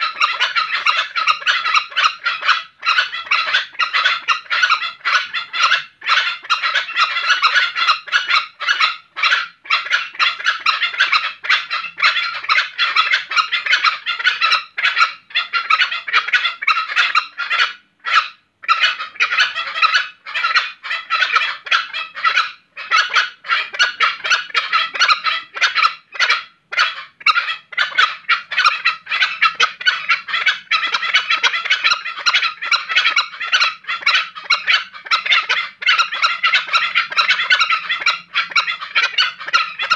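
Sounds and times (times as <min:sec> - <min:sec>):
junglefowl rapid pulsed calls: 0:00.0 - 0:39.9.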